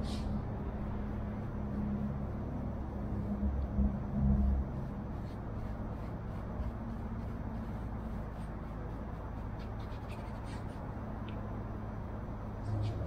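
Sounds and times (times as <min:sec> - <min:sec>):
scratchy brush strokes: 0:00.0 - 0:10.9
steady low hum: 0:00.0 - 0:13.0.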